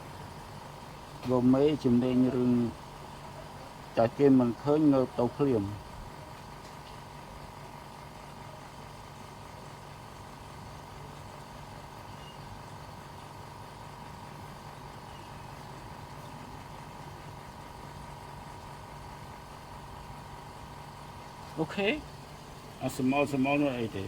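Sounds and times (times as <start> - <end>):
machine hum with high tone: 0.0 - 24.0.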